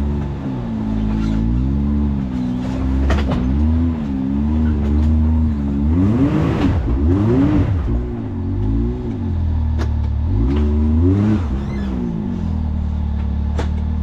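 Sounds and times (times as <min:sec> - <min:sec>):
utility vehicle engine revving: 0:00.0 - 0:14.0.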